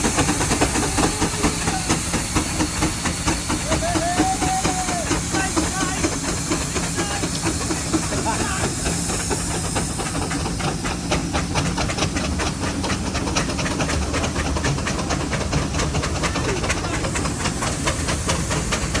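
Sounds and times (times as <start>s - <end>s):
steam engine exhaust beats: 0.0s - 19.0s
steam hissing: 0.0s - 19.0s.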